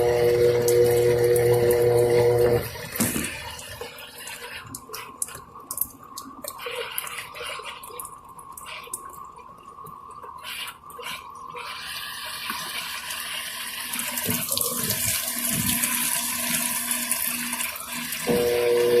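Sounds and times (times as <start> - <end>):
washing machine humming: 0.0 - 19.0
water flowing: 0.0 - 19.0
water trickling and dripping: 0.5 - 11.6, 12.2 - 18.8.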